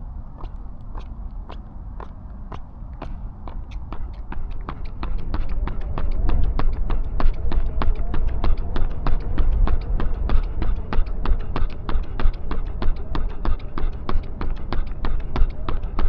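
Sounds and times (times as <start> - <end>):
low steady rumble: 0.0 - 16.0
running footsteps: 0.0 - 16.0.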